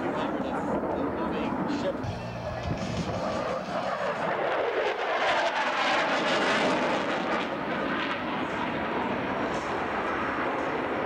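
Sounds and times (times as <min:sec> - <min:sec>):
fighter jet roaring overhead: 0:00.0 - 0:11.0.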